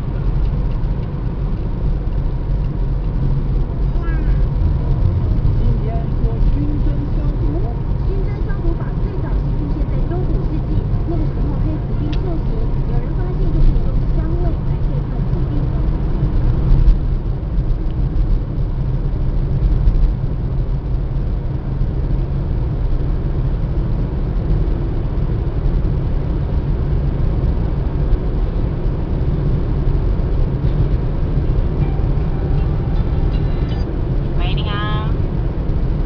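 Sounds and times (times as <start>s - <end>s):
car road and engine rumble: 0.0s - 36.0s.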